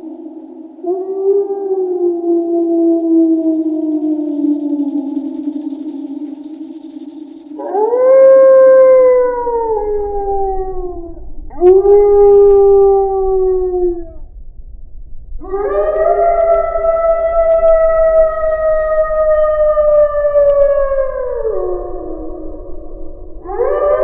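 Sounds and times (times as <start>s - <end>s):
wolf howling: 0.0s - 14.2s, 15.4s - 24.0s.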